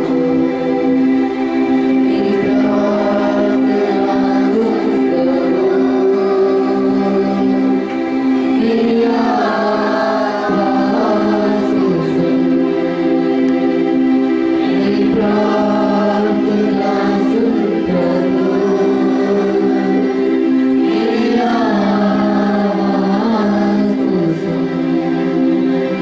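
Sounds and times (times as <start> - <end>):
group singing worship song: 0.0 - 26.0.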